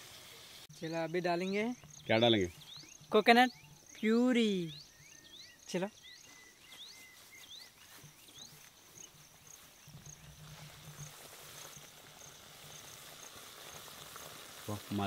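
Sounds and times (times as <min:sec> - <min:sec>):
insects chirping: 0:00.1 - 0:15.0.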